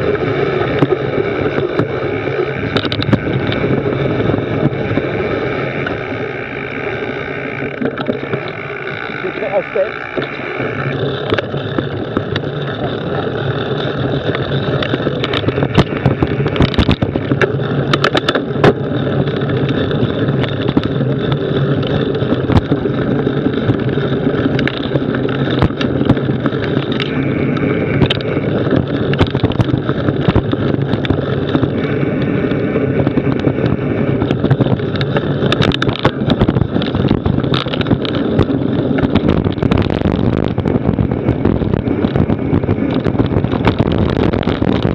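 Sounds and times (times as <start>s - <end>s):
bike tyre rumbling on dirt: 0.0s - 44.9s
steady low hum: 0.0s - 44.9s
wind buffeting microphone: 0.0s - 44.9s.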